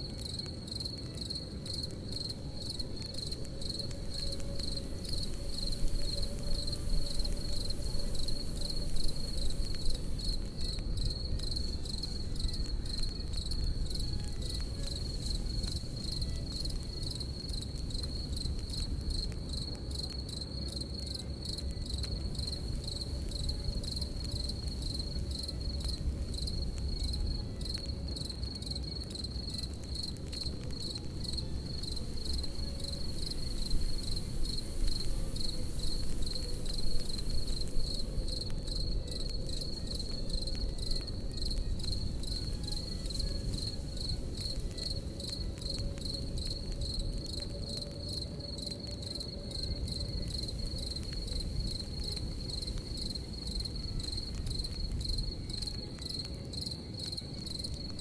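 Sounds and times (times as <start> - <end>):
campfire crackling: 0.0 - 58.0
crickets chirping: 0.0 - 58.0.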